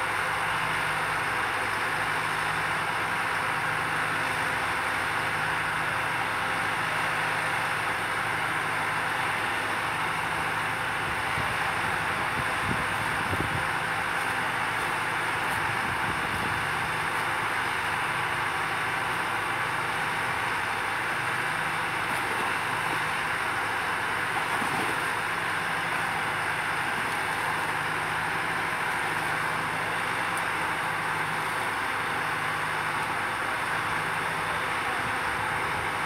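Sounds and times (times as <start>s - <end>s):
travel lift engine and hydraulics: 0.0s - 36.0s.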